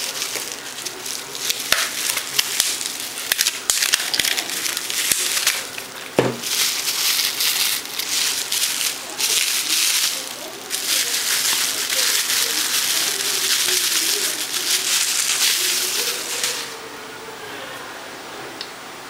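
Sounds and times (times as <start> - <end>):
packaging crinkling: 0.0 - 16.9.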